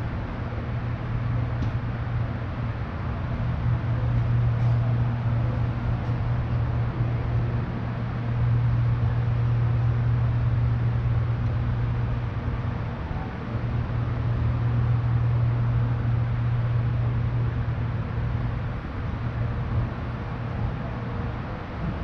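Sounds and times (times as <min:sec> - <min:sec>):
streetcar running on track: 0:00.0 - 0:22.0.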